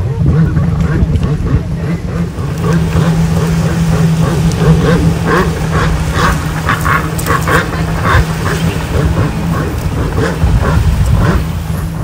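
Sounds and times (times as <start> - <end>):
jet ski engine humming: 0.0 - 12.0.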